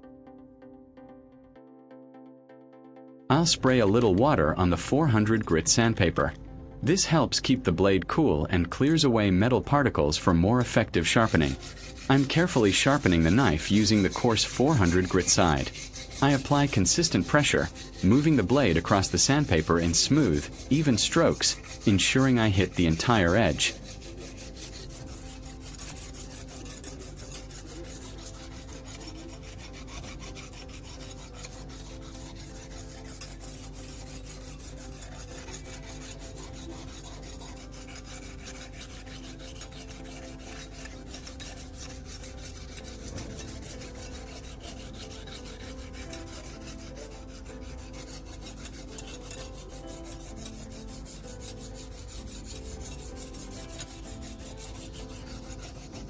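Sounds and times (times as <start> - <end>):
knife scraping on sandpaper: 3.5 - 4.4, 5.0 - 6.4, 10.6 - 56.0.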